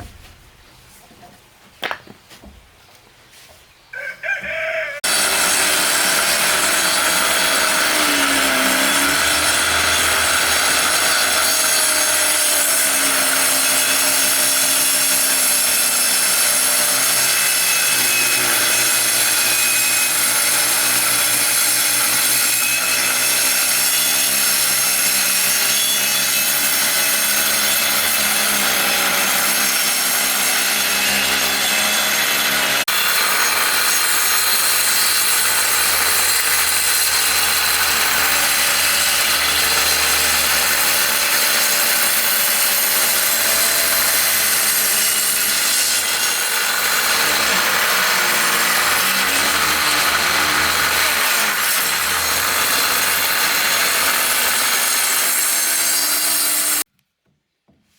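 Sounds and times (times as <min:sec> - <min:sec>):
power saw cutting wood: 0:04.5 - 0:56.9.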